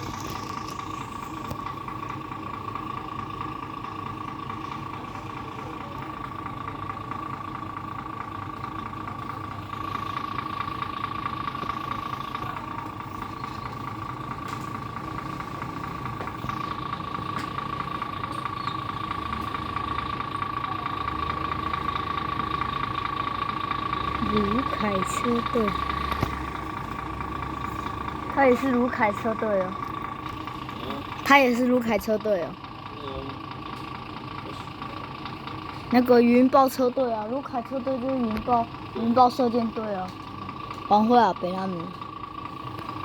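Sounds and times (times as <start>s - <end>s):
large engine idling: 0.0s - 43.0s.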